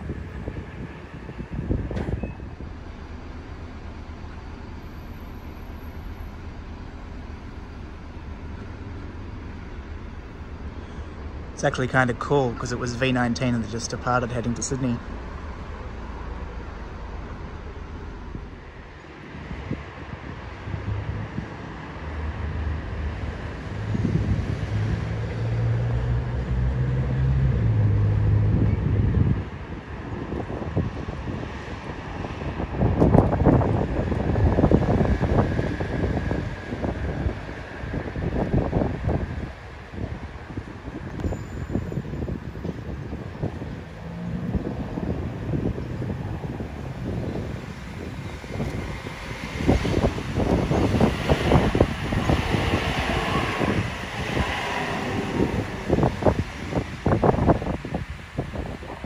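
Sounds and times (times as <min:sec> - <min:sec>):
wind buffeting microphone: 0:00.0 - 0:11.6, 0:15.1 - 0:59.0.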